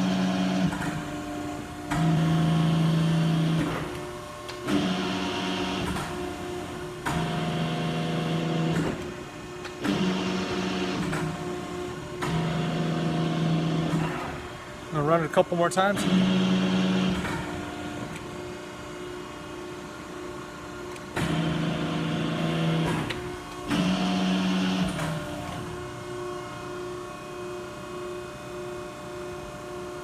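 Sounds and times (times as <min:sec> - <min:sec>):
hydraulic pump humming: 0:00.0 - 0:25.9.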